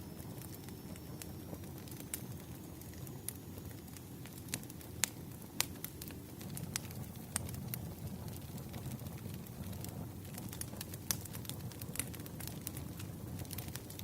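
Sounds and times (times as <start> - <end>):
low rumble of fire: 0.0 - 14.0
logs popping and crackling: 0.2 - 14.0.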